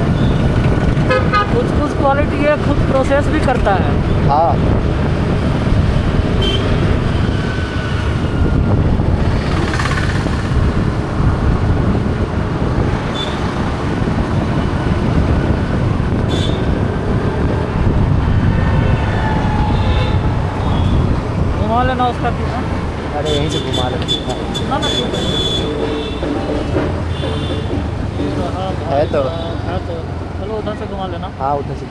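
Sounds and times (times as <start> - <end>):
vehicle rumble: 0.0 - 31.9.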